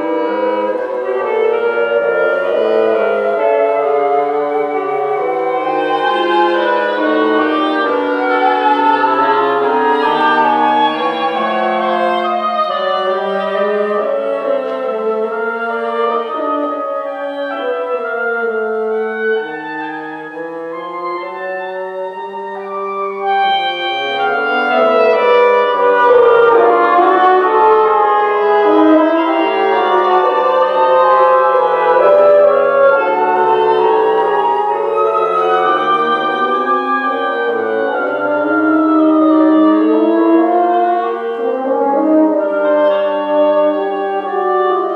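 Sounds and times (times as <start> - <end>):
woodwind ensemble playing: 0.0 - 44.9.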